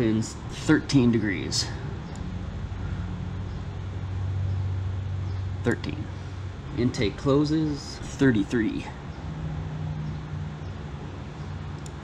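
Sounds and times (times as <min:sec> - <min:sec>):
low fan hum: 0:00.0 - 0:12.0.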